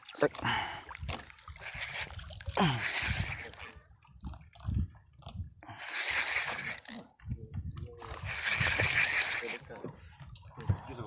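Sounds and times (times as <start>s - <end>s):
seawater sloshing against boat: 0.0s - 11.0s.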